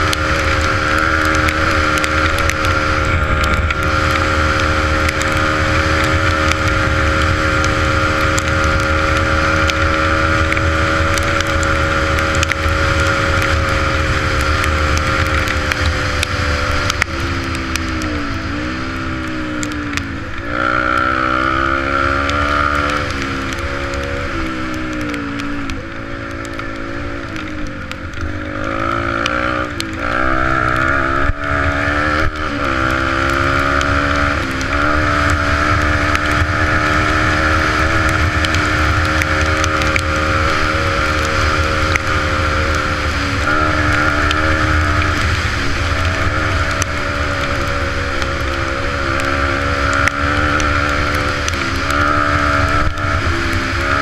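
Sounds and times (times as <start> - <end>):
dirt bike engine: 0.0 - 54.0.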